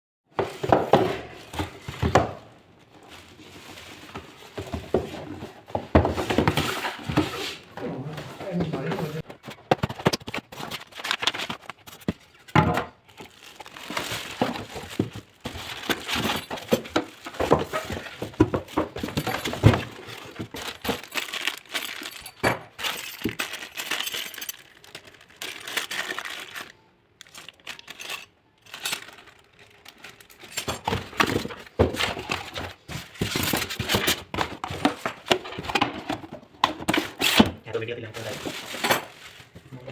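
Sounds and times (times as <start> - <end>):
packaging crinkling and rustling: 0.6 - 39.9.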